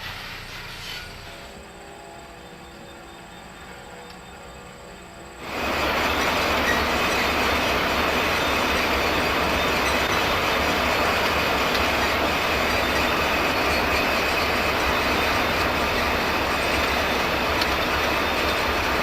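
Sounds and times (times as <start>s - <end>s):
high wheel squeal: 0.0s - 19.0s
train cars rolling past: 0.0s - 19.0s.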